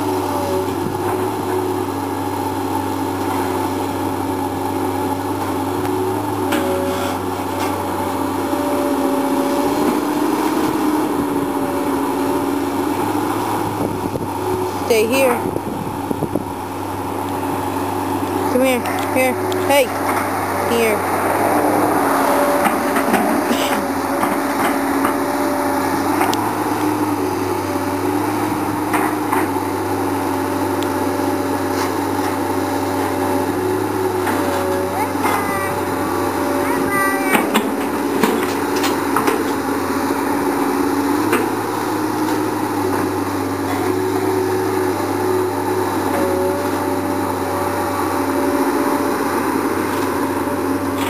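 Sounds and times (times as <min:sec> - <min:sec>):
diesel engine running: 0:00.0 - 0:51.0
hydraulic whine: 0:00.0 - 0:51.0.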